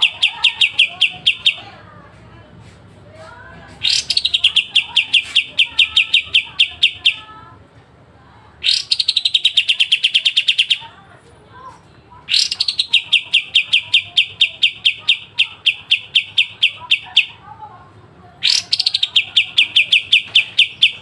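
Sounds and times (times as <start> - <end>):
bulbul singing rapid phrases: 0.0 - 7.6, 8.4 - 11.0, 11.6 - 21.0.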